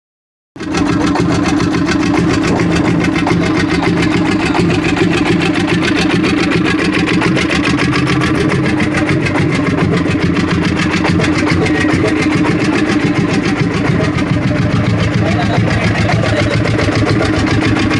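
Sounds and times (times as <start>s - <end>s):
tractor engine idling: 0.6s - 17.9s.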